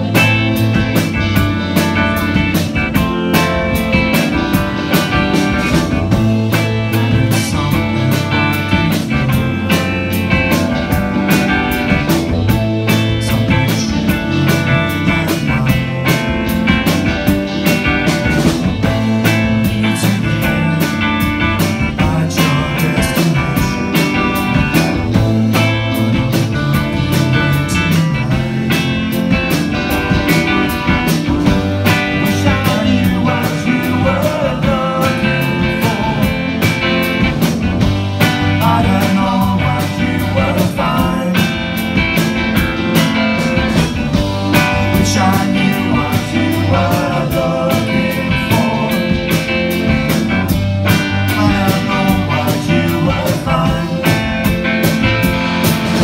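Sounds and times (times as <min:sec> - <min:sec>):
drum kit beat: 0:00.0 - 0:56.0
electric bass line: 0:00.0 - 0:56.0
electric guitars: 0:00.0 - 0:56.0.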